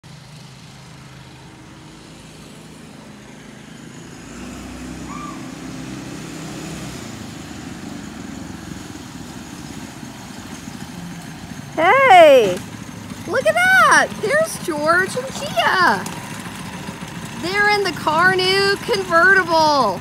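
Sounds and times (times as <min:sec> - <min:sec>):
small go-kart engine running: 0:00.0 - 0:20.0.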